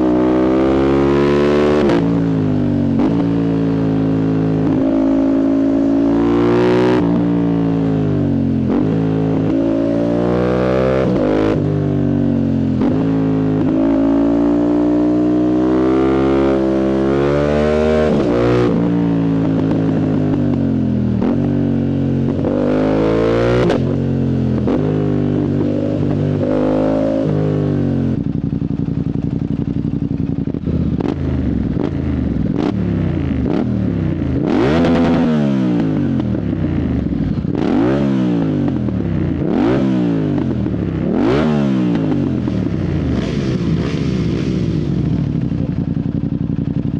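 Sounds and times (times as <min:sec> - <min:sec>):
motorcycle engine accelerating hard: 0:00.0 - 0:46.9.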